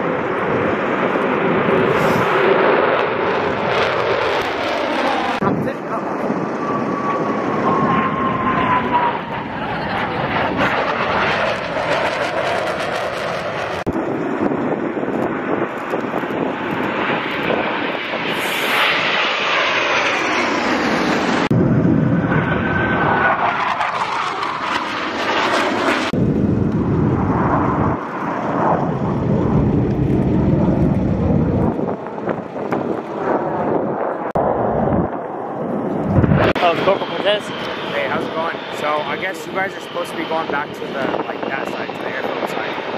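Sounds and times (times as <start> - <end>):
jets flying past: 0.0 - 42.9.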